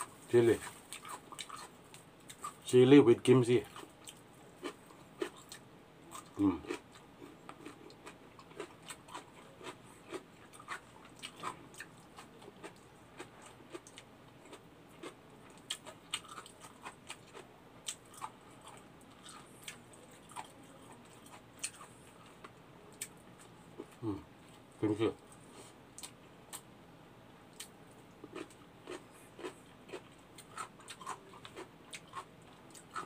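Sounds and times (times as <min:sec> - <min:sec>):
person chewing food: 0:00.0 - 0:02.6, 0:03.6 - 0:24.6, 0:27.5 - 0:33.0.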